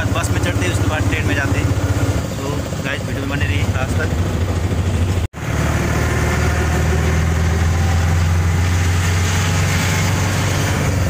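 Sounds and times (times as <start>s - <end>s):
auto-rickshaw engine droning: 0.0s - 11.0s.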